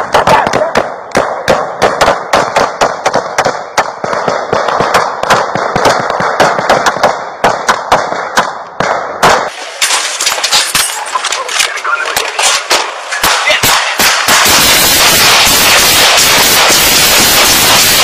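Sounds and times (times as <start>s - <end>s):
rapid gunfire: 0.0s - 18.0s.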